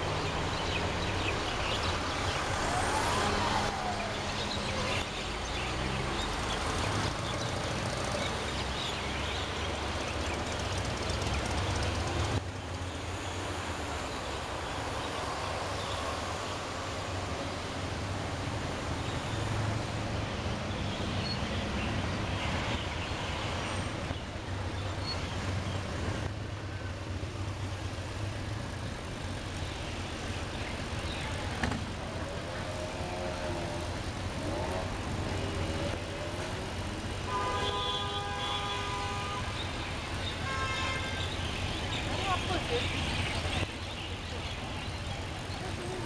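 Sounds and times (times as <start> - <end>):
road and traffic noise: 0.0 - 46.0.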